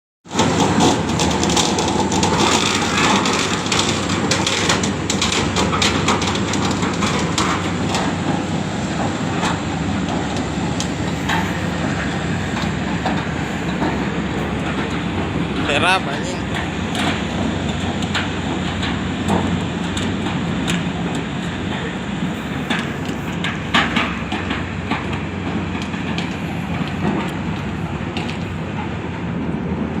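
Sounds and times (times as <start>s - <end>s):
boat engine clattering: 0.2s - 30.0s.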